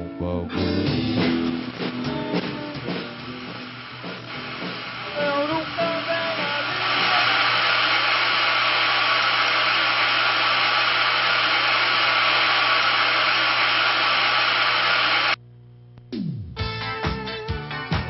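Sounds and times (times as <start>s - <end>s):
tv static hiss: 0.7s - 15.4s.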